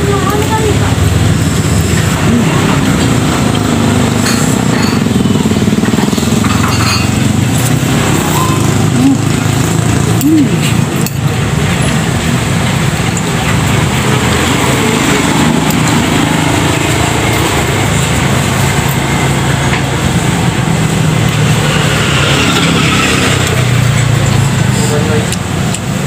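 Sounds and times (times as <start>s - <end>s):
engine rumble: 0.0s - 26.0s.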